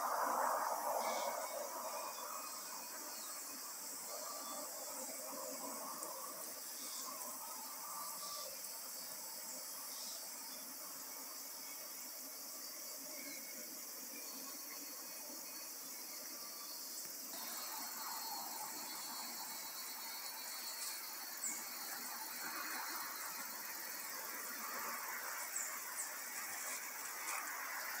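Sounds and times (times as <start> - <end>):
high-pitched insect buzz: 0.0 - 28.0.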